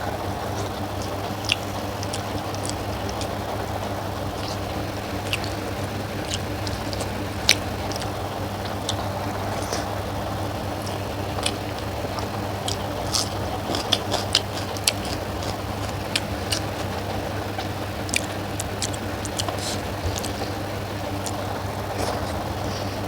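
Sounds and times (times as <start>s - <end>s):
steady low hum: 0.0s - 23.0s
wet chewing: 0.0s - 23.0s
lip smacks and clicks: 0.1s - 23.0s.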